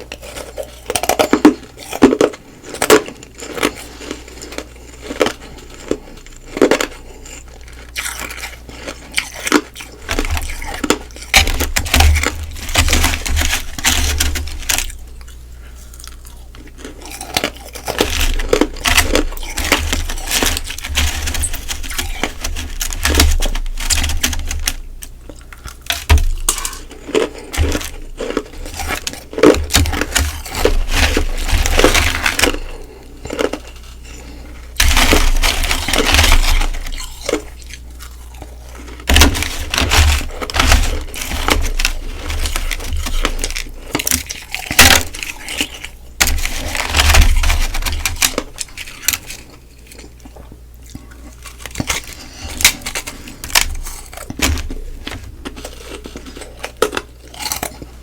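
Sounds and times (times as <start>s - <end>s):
ice being bitten and crunched: 0.0s - 57.9s.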